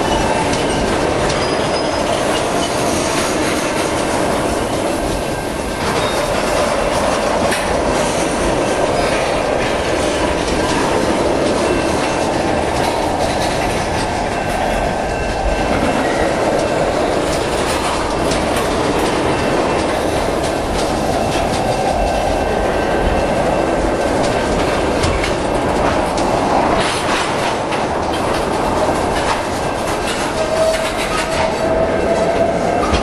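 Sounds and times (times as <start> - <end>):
train wheels rumbling on rail: 0.0 - 33.0
wheels clacking on track joints: 0.0 - 33.0.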